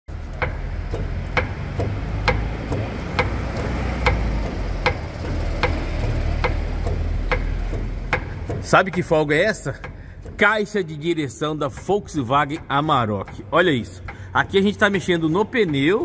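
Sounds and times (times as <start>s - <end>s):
steering rack clicking knocks: 0.2s - 16.0s.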